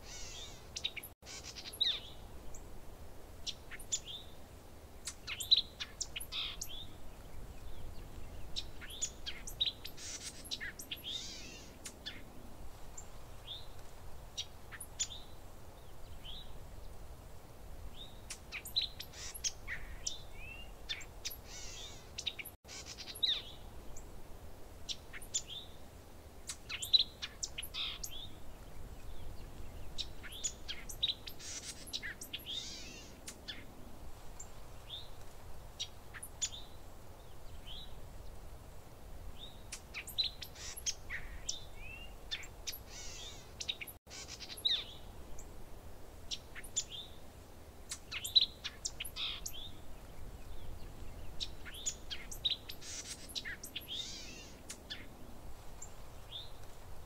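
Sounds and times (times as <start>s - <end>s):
faint background hiss: 0.0s - 57.0s
songbirds chirping: 0.0s - 57.0s.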